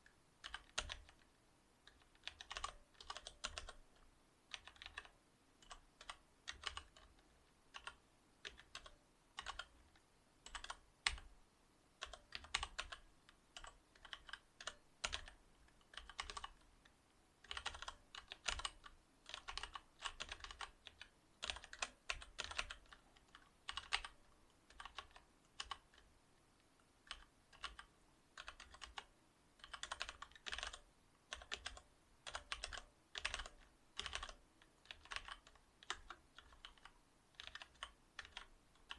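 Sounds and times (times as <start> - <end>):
typing on mechanical keyboard: 0.4 - 3.9, 4.5 - 11.3, 12.0 - 16.6, 17.4 - 26.1, 27.0 - 38.9.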